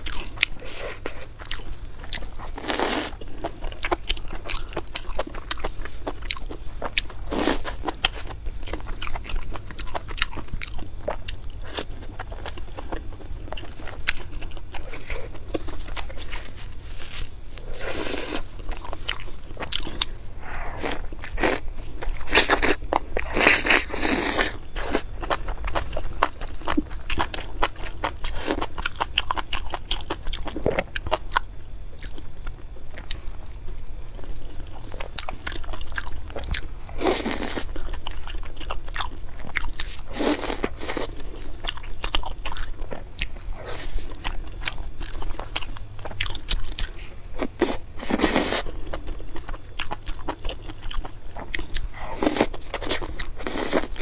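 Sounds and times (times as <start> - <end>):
chewing and biting meat: 0.0 - 16.6, 20.8 - 32.2, 35.0 - 54.0.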